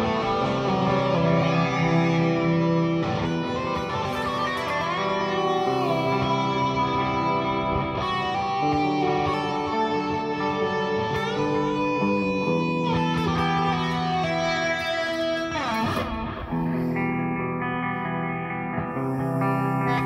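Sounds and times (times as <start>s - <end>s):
electric guitar chords: 0.0s - 20.0s.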